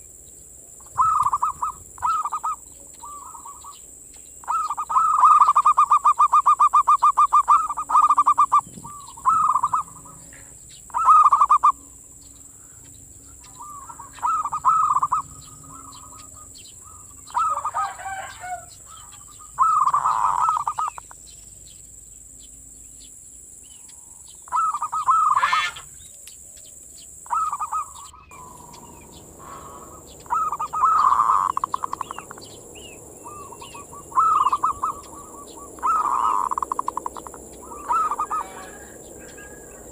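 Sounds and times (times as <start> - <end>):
dove cooing song: 0.8 - 21.4, 23.7 - 39.9.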